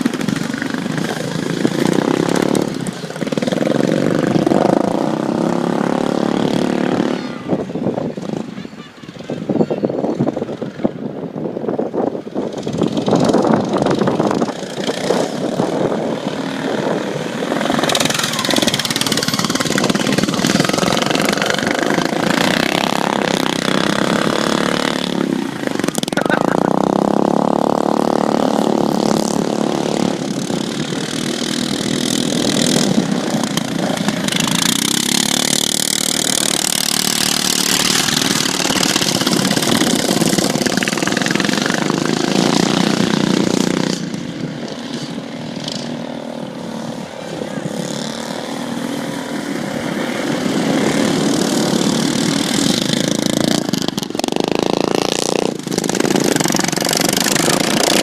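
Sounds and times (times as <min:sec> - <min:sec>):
racing lawn mower engines revving: 0:00.0 - 0:58.0.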